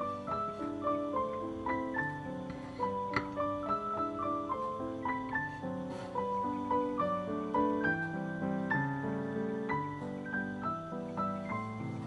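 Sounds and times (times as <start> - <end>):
keyboard melody over chords: 0.0 - 12.0.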